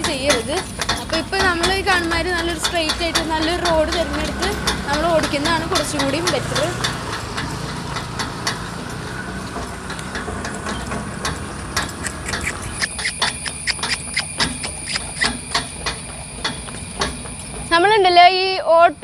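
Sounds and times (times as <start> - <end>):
cart rumbling and rattling: 0.0 - 19.0
hooves clopping on pavement: 0.0 - 19.0.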